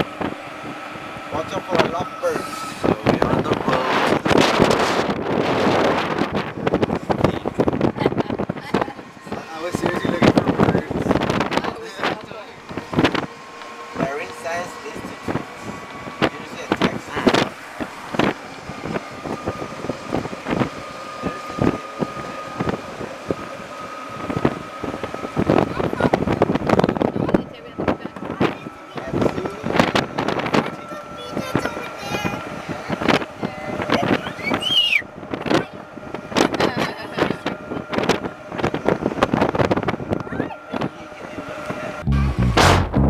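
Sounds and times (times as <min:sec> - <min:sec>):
faint steady running tone: 0:00.0 - 0:42.1
road and engine noise: 0:00.0 - 0:43.0
small vehicle driving: 0:00.0 - 0:43.0
wind buffeting microphone: 0:00.0 - 0:43.0.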